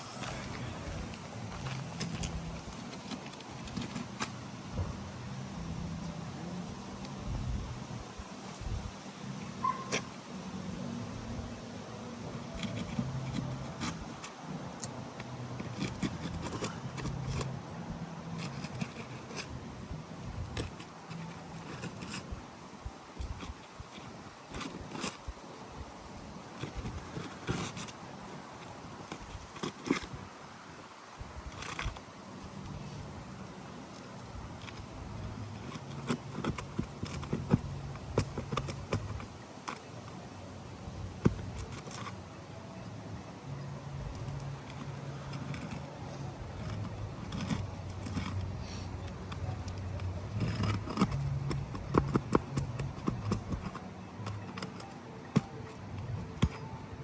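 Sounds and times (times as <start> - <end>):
hand tools scraping shingles: 0.0 - 7.5, 10.8 - 19.6, 20.2 - 25.4, 26.0 - 40.1, 44.1 - 56.8.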